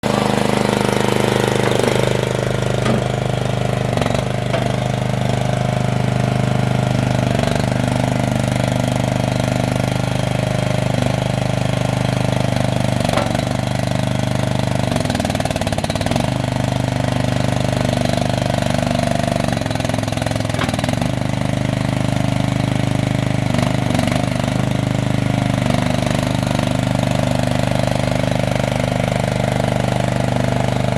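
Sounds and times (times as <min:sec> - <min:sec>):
skid steer loader engine running: 0:00.0 - 0:30.9.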